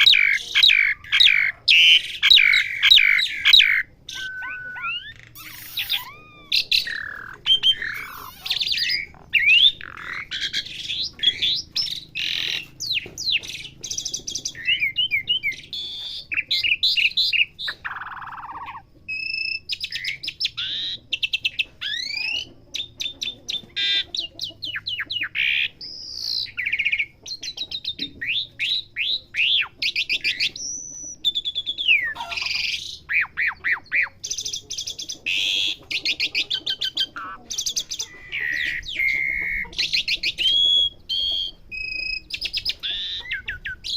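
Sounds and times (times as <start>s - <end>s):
starling singing: 0.0s - 43.9s.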